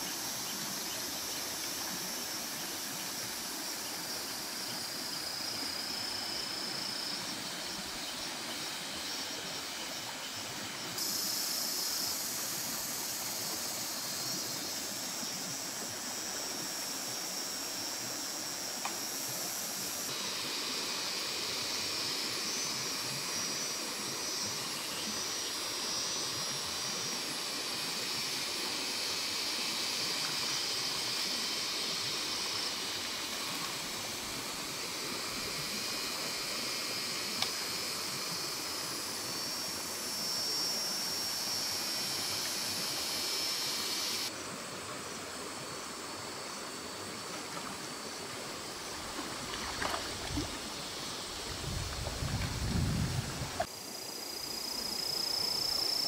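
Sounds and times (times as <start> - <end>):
creek water rushing: 0.0 - 54.8.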